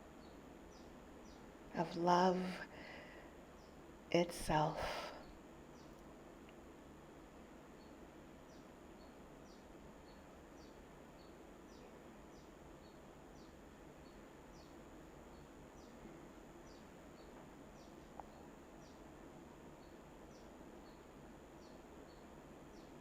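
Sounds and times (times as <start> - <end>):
low background hiss: 0.0 - 23.0.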